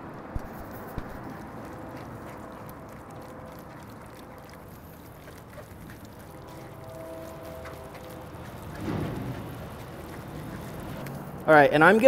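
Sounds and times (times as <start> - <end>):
wet squishing through strainer: 0.6 - 11.5
liquid dripping into glass bowl: 1.2 - 11.5.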